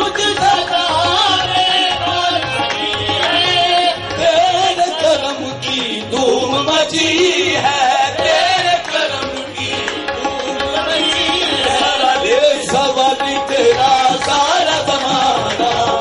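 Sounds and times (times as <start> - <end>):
harmonium melody: 0.0 - 16.0
tabla beat: 0.0 - 16.0.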